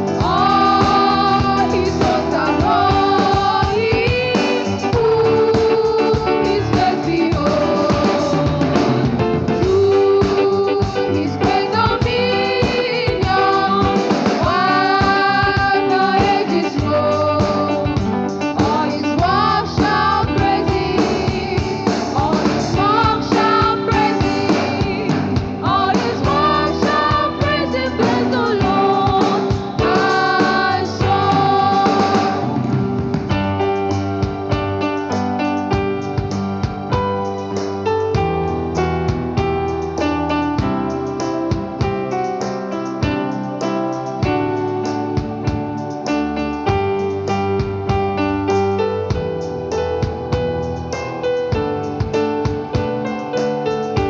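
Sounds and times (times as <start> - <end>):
gospel singing with live band: 0.0 - 54.0.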